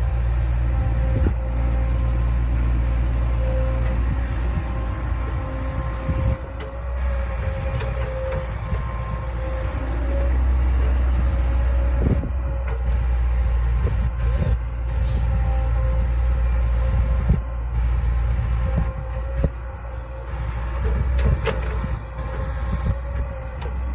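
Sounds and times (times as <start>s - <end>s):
clunks: 0.0s - 23.9s
excavator diesel engine running: 0.0s - 23.9s
steady whine: 0.0s - 23.9s.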